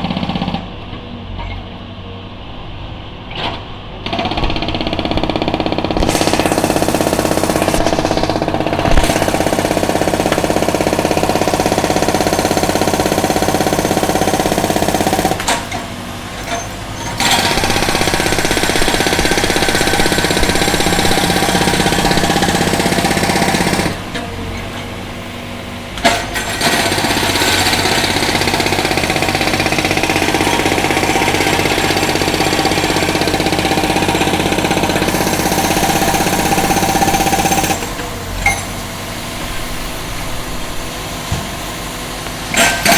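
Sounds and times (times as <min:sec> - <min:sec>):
engine running: 0:00.0 - 0:42.9
concrete breaker hammering: 0:04.0 - 0:24.4, 0:26.0 - 0:42.9.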